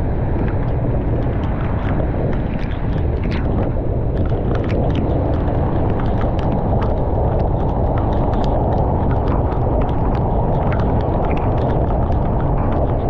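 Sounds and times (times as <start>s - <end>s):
raindrops ticking: 0.3s - 13.0s.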